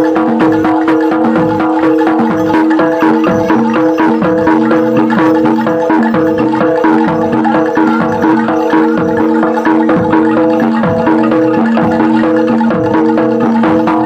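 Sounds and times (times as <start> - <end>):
metal mallet instruments melody: 0.0 - 14.0
quick steady percussion: 0.0 - 14.0.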